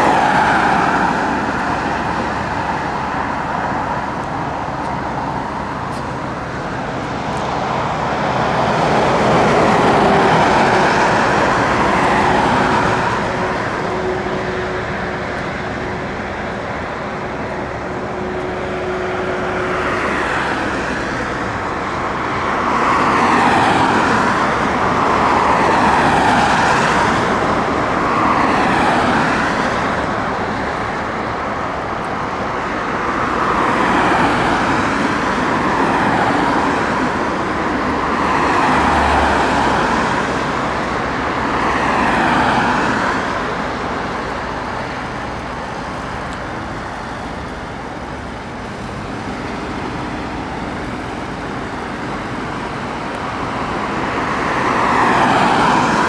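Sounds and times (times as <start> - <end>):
background traffic noise: 0.0 - 56.0
vehicles passing by: 0.0 - 56.0.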